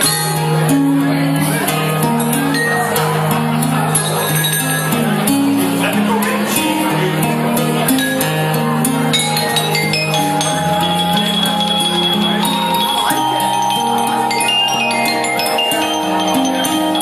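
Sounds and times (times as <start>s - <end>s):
vibraphone melody: 0.0s - 17.0s.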